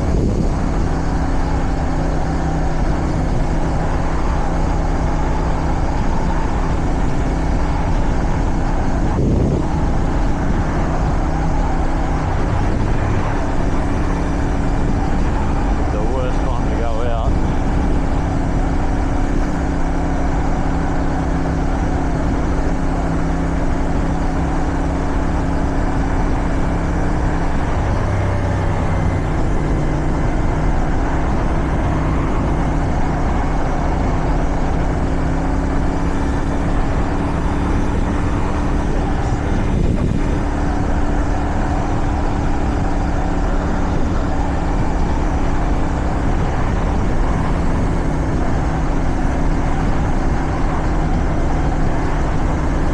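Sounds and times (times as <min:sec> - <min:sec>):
motorcycle engine cruising: 0:00.0 - 0:52.9
wind noise on microphone: 0:00.0 - 0:52.9.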